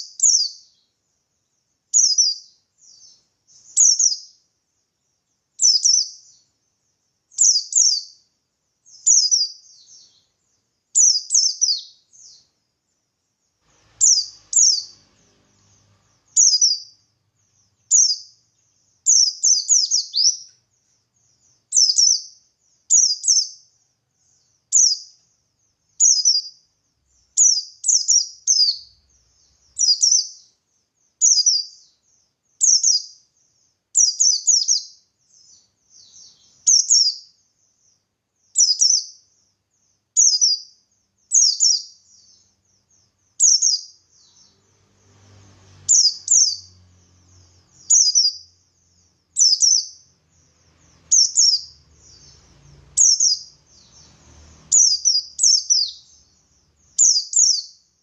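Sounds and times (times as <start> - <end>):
bird chirping: 0.0 - 58.0.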